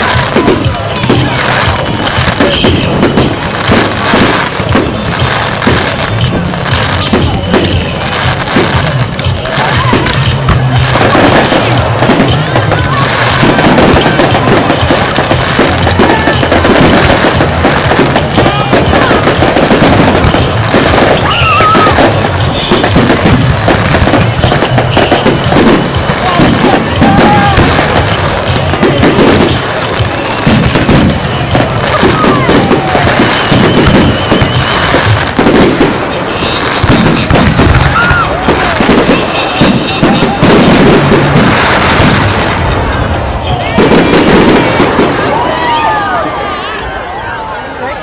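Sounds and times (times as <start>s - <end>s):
fireworks bursting and crackling: 0.0s - 48.0s.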